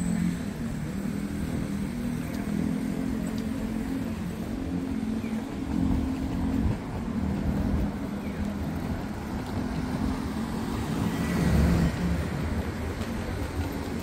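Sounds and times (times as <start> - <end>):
motor vehicle engines humming: 0.0 - 14.0.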